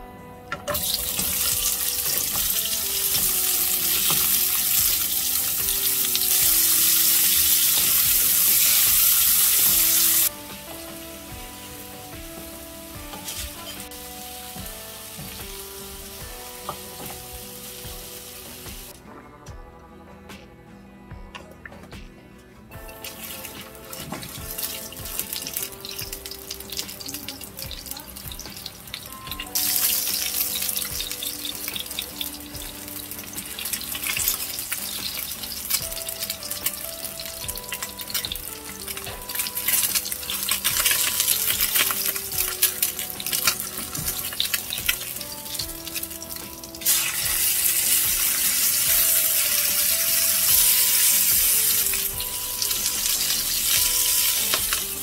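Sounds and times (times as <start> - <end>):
meat sizzling in a frying pan: 0.8 - 18.9, 23.0 - 55.0.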